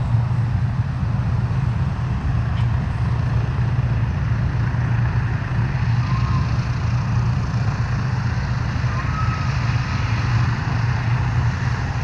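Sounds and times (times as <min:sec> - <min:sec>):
radial engines droning: 0:00.0 - 0:12.0.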